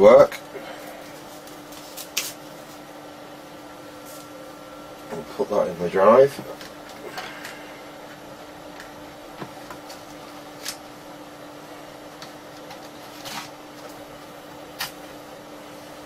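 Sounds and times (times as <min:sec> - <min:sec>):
computer humming: 0:00.0 - 0:16.0.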